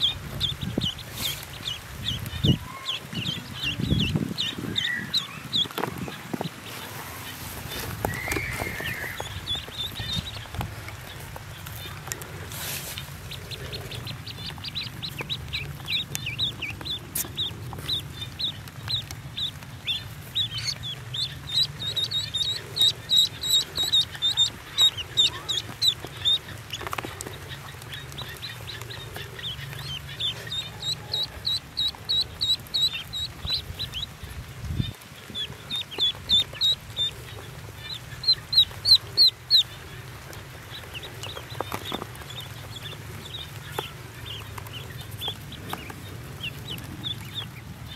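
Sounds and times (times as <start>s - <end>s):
ducklings peeping: 0.0s - 47.9s.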